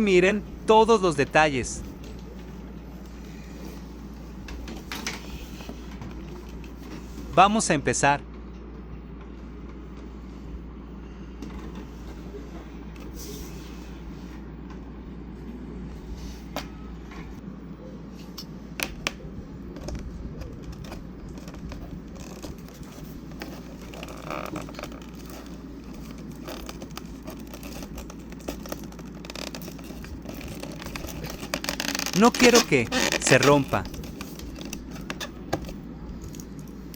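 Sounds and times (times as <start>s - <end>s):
low background hum: 0.0s - 36.9s.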